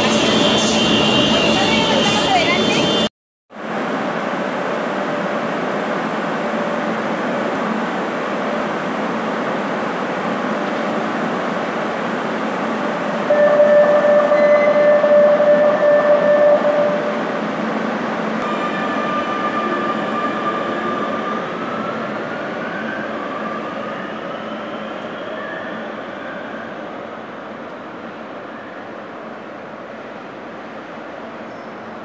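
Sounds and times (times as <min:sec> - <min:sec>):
train running noise: 0:00.0 - 0:32.0.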